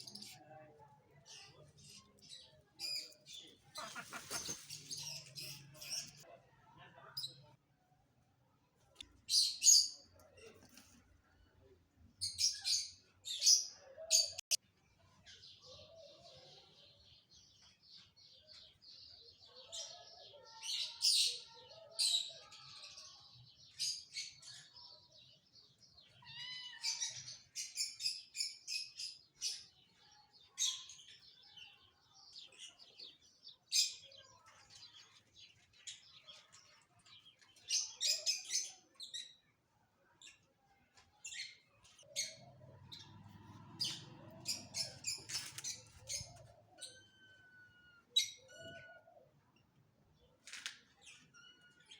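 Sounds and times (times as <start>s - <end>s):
small birds chirping: 0.0s - 7.6s, 8.3s - 51.9s.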